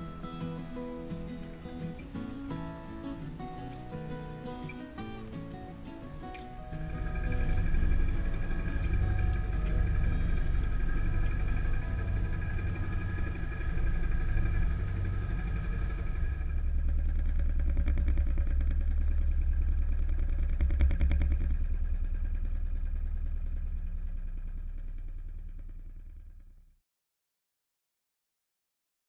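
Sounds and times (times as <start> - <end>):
wind: 0.0 - 25.6
boat engine rumbling: 0.0 - 26.4.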